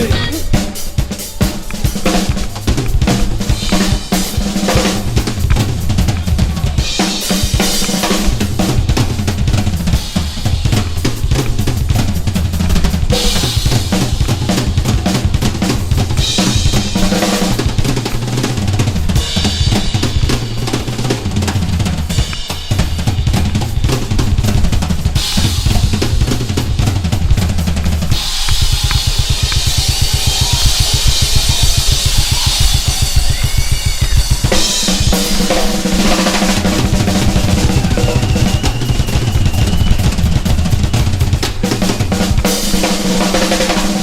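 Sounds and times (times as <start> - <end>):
drum kit and bass music: 0.0 - 44.0.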